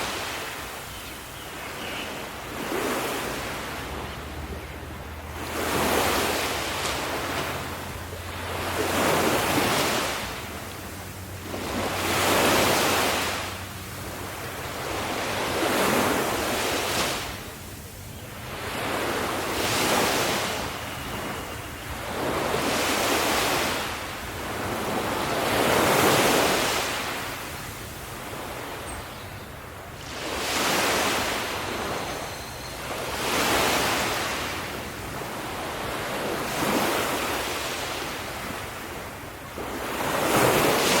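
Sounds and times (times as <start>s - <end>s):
waves breaking on shore: 0.0s - 41.0s.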